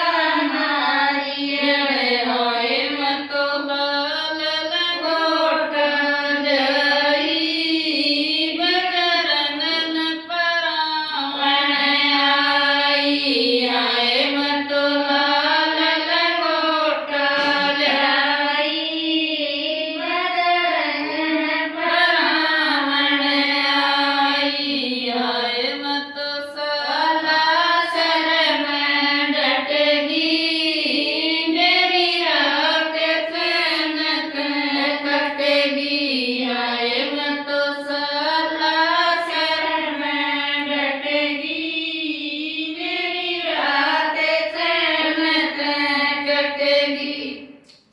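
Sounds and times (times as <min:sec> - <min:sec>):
women singing together: 0:00.0 - 0:47.7.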